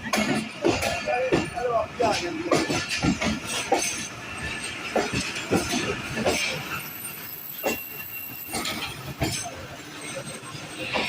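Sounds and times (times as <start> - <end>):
rail cars clanking and rattling: 0.0 - 11.0.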